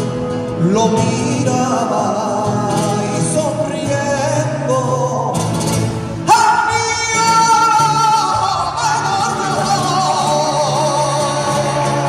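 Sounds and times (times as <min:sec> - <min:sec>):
guitar accompaniment: 0:00.0 - 0:12.0
man singing flamenco: 0:00.5 - 0:12.0.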